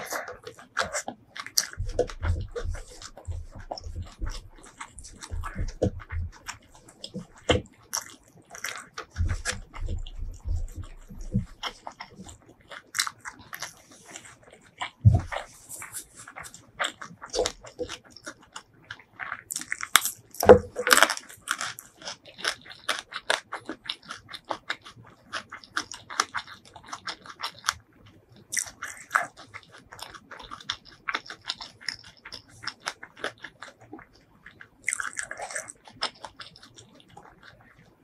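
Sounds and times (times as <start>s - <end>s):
crunching and chewing: 0.0s - 38.0s.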